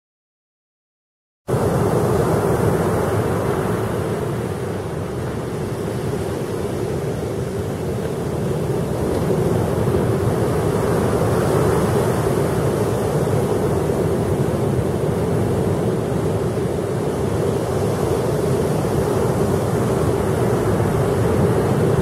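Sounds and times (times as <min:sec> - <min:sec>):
sea surf rushing: 0:01.5 - 0:22.0.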